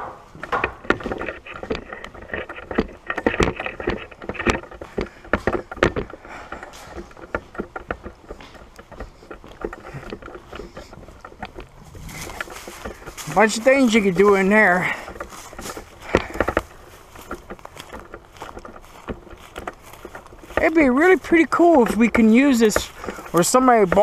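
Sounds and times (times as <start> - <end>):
footsteps crunching over debris: 0.0 - 24.0.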